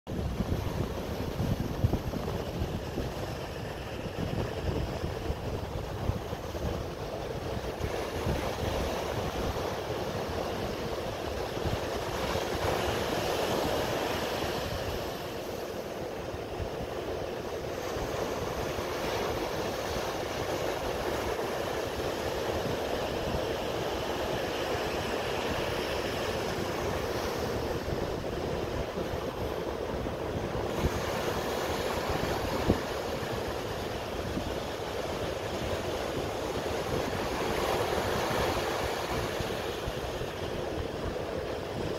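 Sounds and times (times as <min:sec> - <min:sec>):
surf breaking on beach: 0:00.1 - 0:41.9
wind buffeting microphone: 0:00.1 - 0:41.9.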